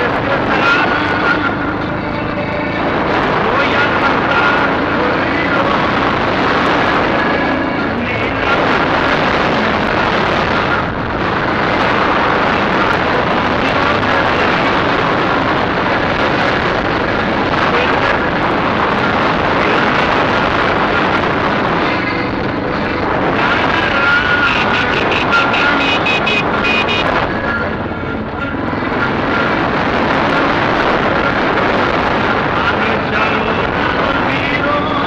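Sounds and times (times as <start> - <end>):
wind noise on microphone: 0.0 - 35.0.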